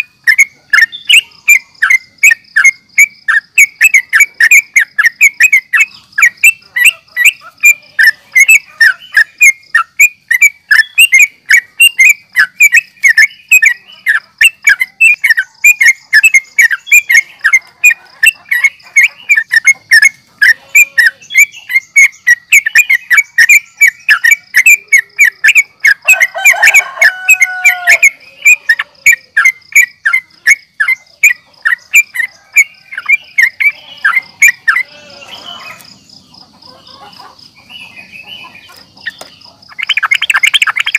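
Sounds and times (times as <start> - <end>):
bird sharp chirps: 0.0 - 40.9.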